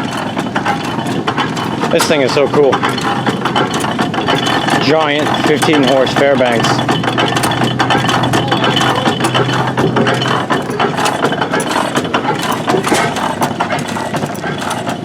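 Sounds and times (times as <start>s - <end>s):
stationary engines clattering: 0.0s - 15.0s
steady low hum: 0.0s - 15.0s.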